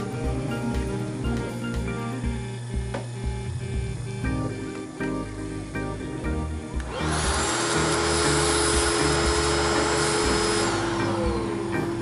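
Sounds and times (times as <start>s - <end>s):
shop vacuum running: 0.0s - 12.0s.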